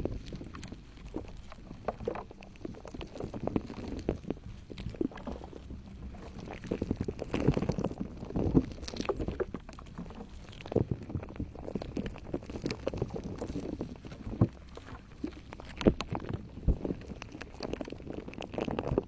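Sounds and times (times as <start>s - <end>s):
slime squelching by hand: 0.0s - 19.0s.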